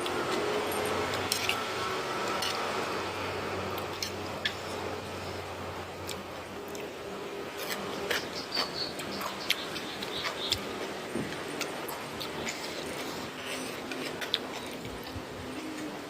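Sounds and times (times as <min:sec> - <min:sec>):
food crunching and chewing: 0:00.0 - 0:05.1, 0:06.0 - 0:16.0
steady background hiss: 0:00.0 - 0:16.0.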